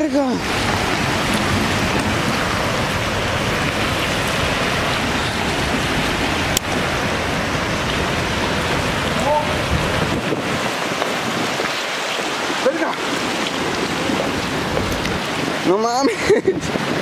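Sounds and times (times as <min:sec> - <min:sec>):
mud and debris flow rushing: 0:00.0 - 0:17.0.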